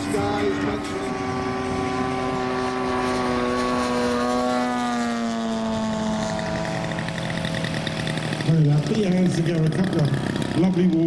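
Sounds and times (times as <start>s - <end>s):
model plane engine droning: 0.0s - 11.0s.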